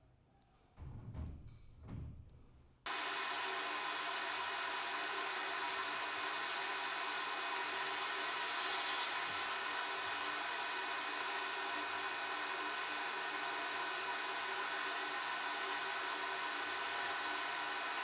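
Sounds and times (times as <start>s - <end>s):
air machinery hissing: 2.9s - 18.0s.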